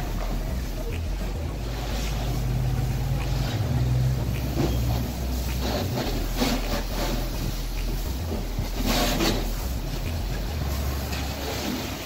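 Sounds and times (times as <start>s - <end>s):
pressure washer hum: 0.0s - 12.0s
water jet spraying: 0.0s - 12.0s.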